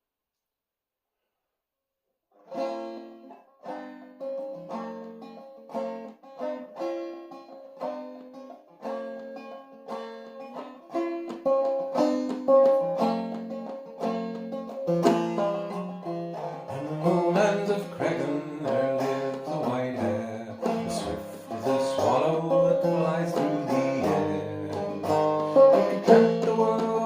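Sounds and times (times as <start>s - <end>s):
banjo plucked melody: 2.4s - 27.0s.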